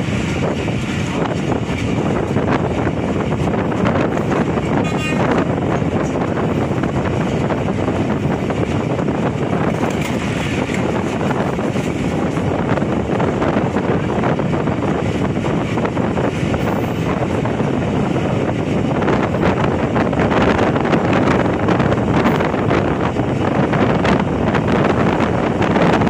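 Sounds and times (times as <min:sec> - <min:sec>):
train wheels on rails: 0:00.0 - 0:26.0
wind buffeting microphone: 0:00.0 - 0:26.0.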